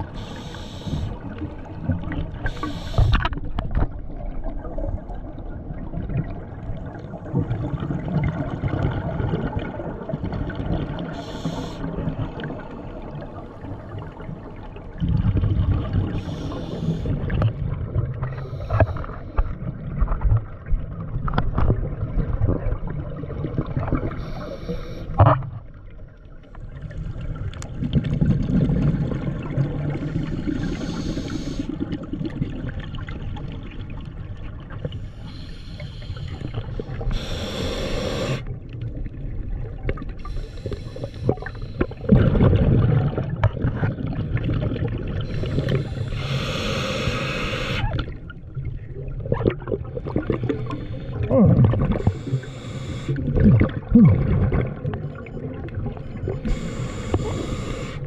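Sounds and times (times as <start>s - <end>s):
water: 0.0s - 58.0s.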